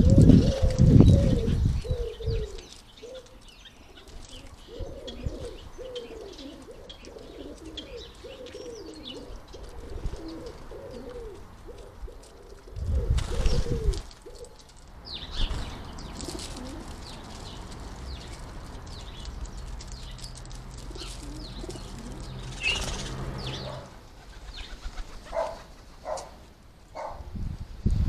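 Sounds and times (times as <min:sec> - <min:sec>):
pigeon cooing: 0:00.0 - 0:14.6, 0:16.2 - 0:17.6, 0:19.9 - 0:26.4
birds chirping: 0:00.0 - 0:26.4.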